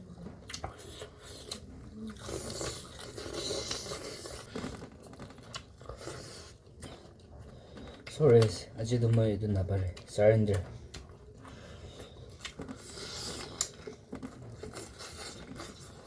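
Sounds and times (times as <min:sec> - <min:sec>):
chewing and biting food: 0:00.1 - 0:09.2, 0:09.9 - 0:16.0.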